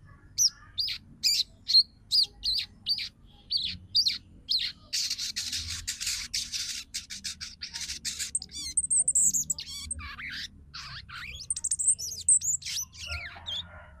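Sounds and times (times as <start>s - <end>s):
bird raspy chirps: 0.0s - 13.8s.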